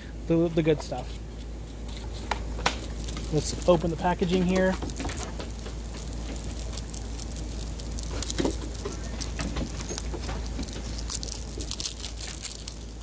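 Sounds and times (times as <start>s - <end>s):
fingers scratching plastic wrap: 1.0s - 13.0s.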